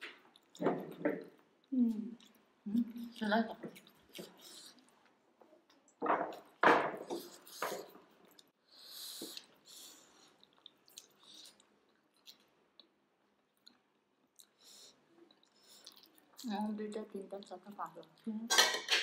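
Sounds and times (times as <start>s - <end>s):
dumplings being chewed: 0.0s - 18.3s.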